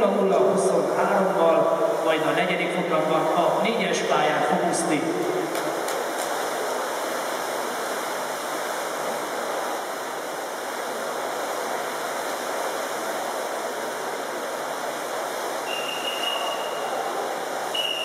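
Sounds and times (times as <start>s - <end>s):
swimming pool hall ambience: 0.0s - 18.0s.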